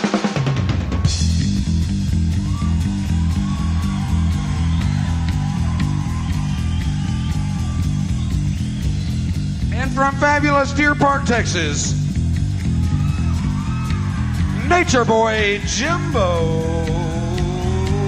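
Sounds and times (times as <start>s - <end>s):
drums: 0.0s - 18.0s
upright bass playing: 1.2s - 18.0s.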